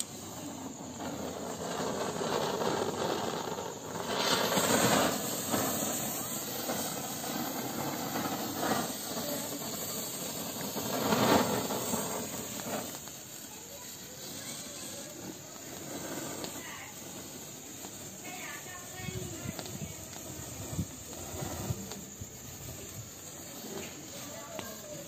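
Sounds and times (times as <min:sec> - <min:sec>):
firework hissing sparks: 0:00.0 - 0:25.0.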